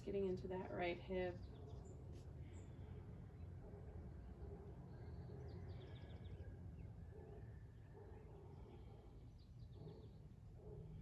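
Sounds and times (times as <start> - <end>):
low steady background rumble: 0.0 - 11.0.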